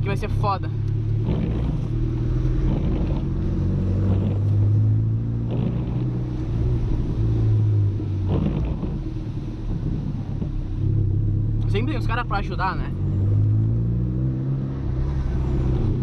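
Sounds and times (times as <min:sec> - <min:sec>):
car engine running: 0:00.0 - 0:16.0
road noise in cabin: 0:00.0 - 0:16.0.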